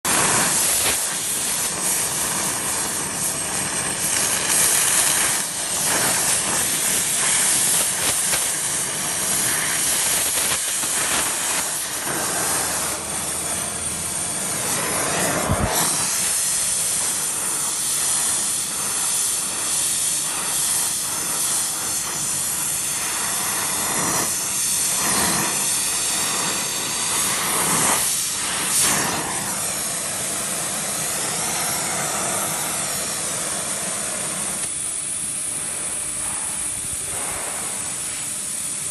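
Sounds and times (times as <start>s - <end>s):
loud gas hiss: 0.0s - 38.9s.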